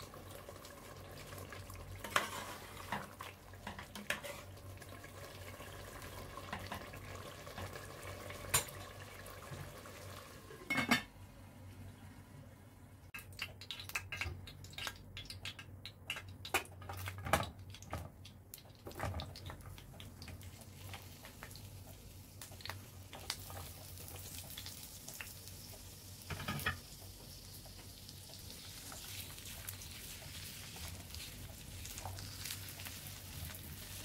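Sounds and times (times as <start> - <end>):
oil sizzling: 0.0 - 10.7, 13.2 - 34.0.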